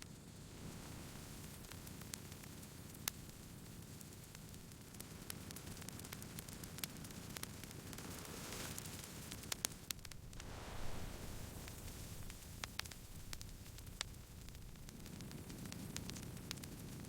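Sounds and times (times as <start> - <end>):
low steady hiss: 0.0 - 17.0
campfire crackling and popping: 0.2 - 17.0.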